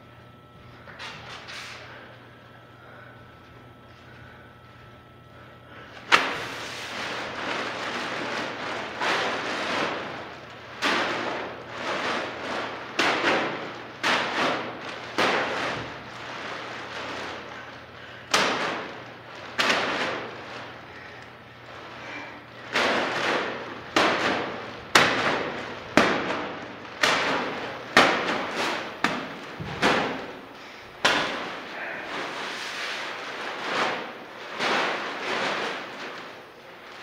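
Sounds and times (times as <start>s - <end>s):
bags thudding on concrete floor: 6.0s - 37.0s
plastic rustling and crinkling: 6.0s - 37.0s.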